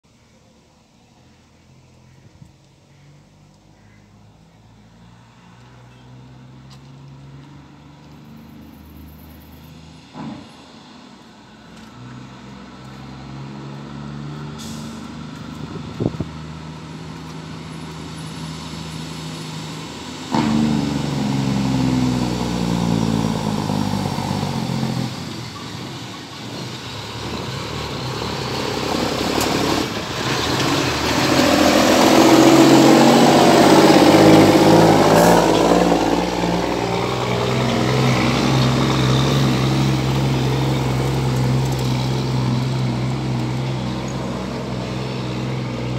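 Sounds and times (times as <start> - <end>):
diesel truck passing by: 3.1 - 45.9.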